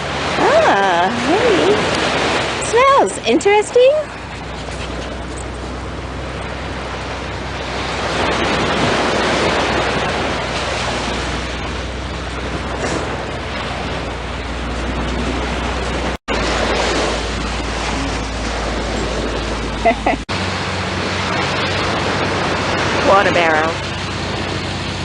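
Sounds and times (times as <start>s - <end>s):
low hum: 0.0s - 25.0s
ocean surf washing up: 0.0s - 25.0s
wind on microphone: 0.0s - 25.0s.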